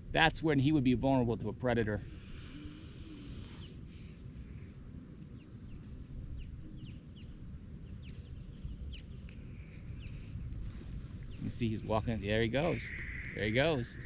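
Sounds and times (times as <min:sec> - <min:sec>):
steady low rumble: 0:00.0 - 0:14.0
small birds chirping: 0:02.0 - 0:14.0.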